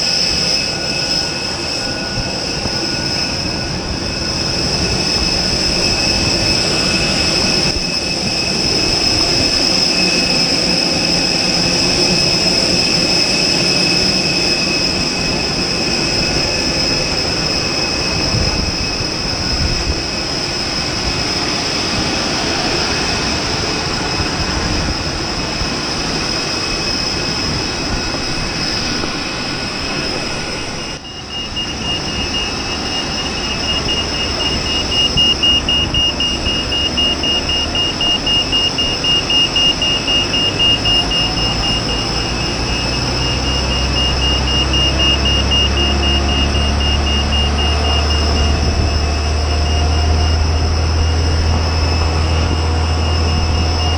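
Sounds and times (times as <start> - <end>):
jet engine high-pitched whine: 0.0 - 53.9.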